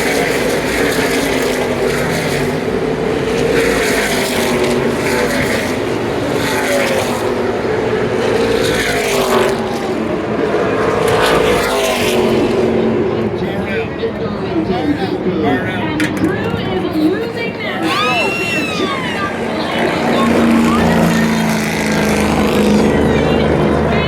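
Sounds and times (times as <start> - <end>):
race truck engines passing: 0.0 - 24.0.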